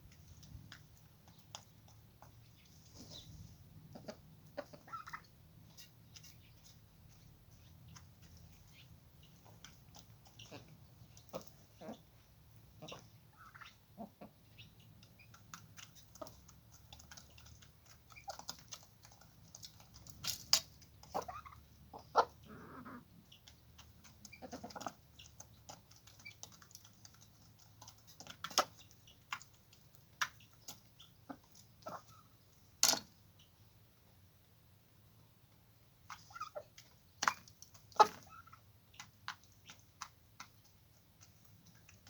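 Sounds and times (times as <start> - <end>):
chickens pecking on hard surface: 0.0 - 34.3, 35.4 - 42.0
chicken calls: 1.0 - 6.8, 7.5 - 20.1, 21.0 - 32.6, 36.1 - 40.6.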